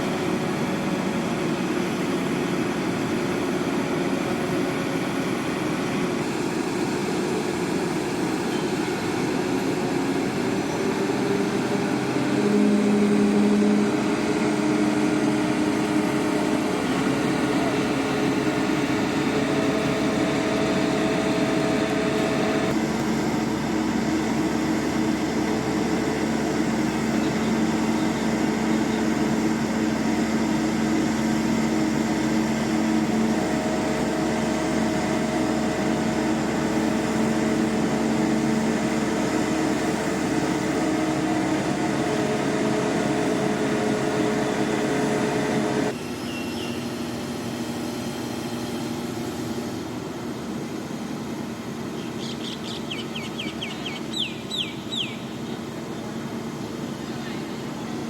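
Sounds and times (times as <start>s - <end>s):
construction machinery engine running: 0.0s - 58.0s.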